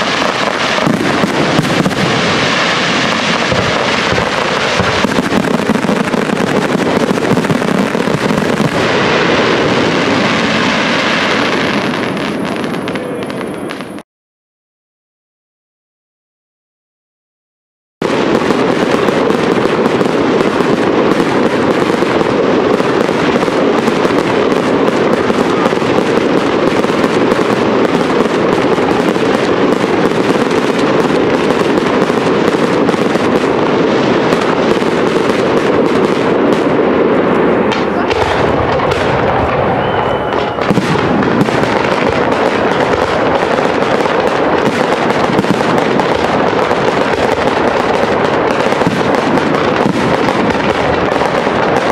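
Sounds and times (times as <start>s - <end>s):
fireworks bursts crackling: 0.0s - 14.0s, 18.0s - 51.9s.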